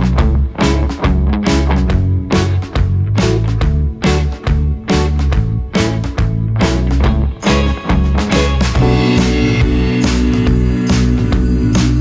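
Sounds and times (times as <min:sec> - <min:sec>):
music with drums and guitar: 0:00.0 - 0:12.0.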